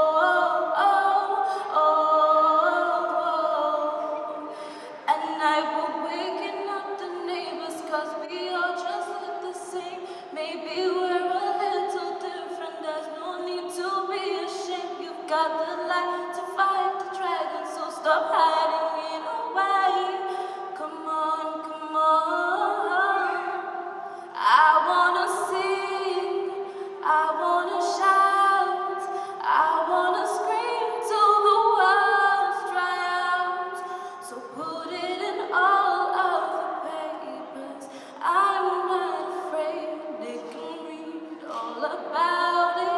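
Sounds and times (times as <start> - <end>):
a cappella harmony singing: 0.0 - 42.9.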